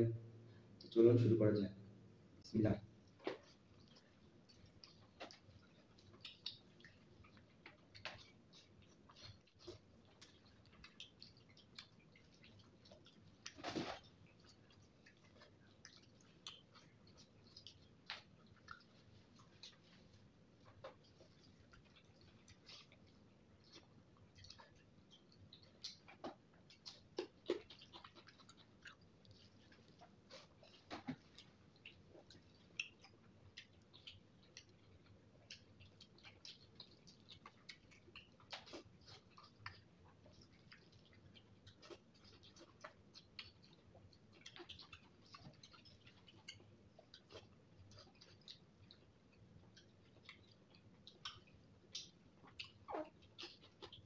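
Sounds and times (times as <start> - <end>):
person chewing with wet smacks: 0.5 - 1.0, 2.2 - 54.0.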